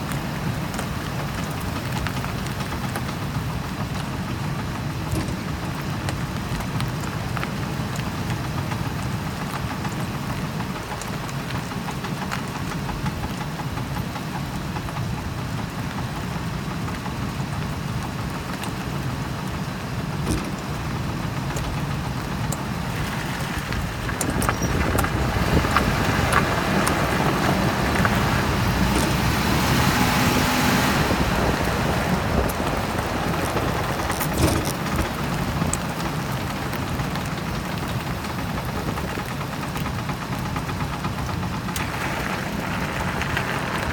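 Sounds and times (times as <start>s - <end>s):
vehicle driving with road noise: 0.0s - 43.9s.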